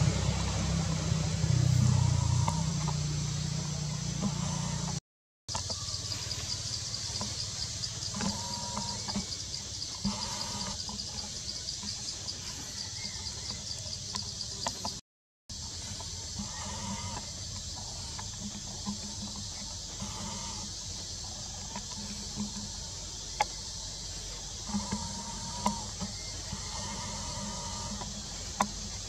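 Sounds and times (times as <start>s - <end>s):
pulsing insect chorus: 0.0s - 29.0s.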